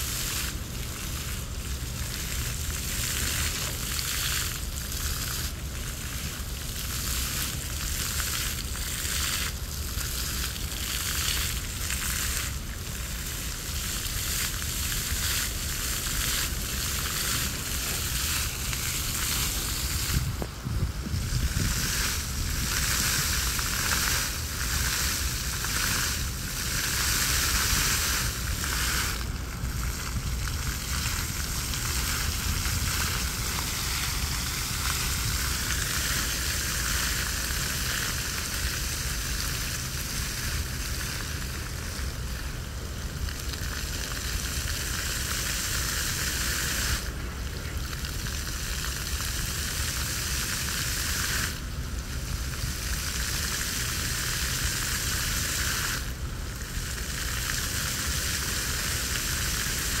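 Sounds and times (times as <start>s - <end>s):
fountain water splashing: 0.0s - 60.0s.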